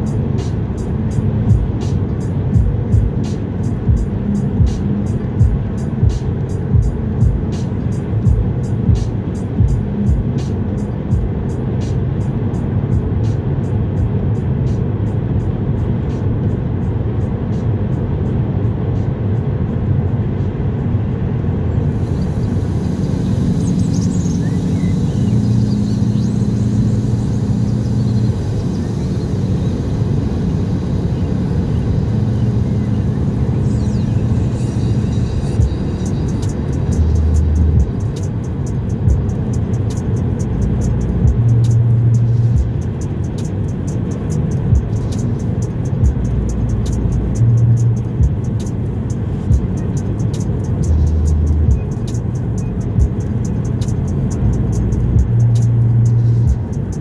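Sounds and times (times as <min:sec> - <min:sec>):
background music with ticking beat: 0:00.0 - 0:57.0
car road and engine rumble: 0:00.0 - 0:57.0.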